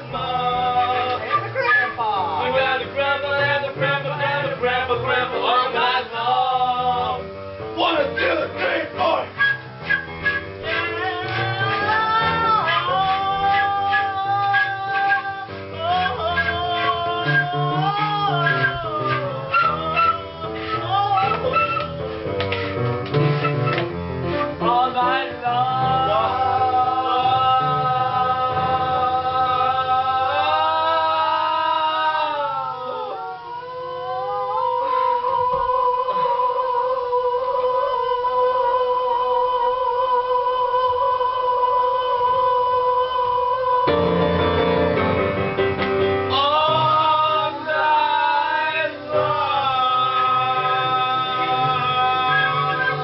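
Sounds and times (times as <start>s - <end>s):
backing track: 0.0s - 38.9s, 39.9s - 53.0s
voices singing a held note: 4.1s - 23.8s, 24.4s - 44.6s, 46.3s - 53.0s.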